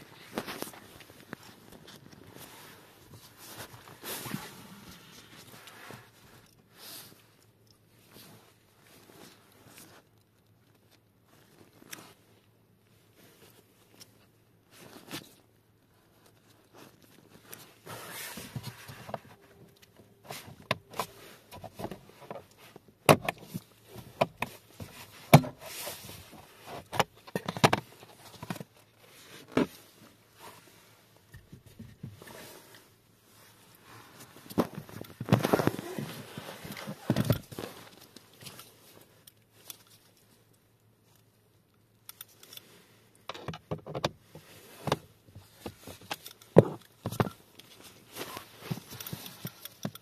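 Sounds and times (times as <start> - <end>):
rustling: 0.0 - 43.2, 44.2 - 50.0.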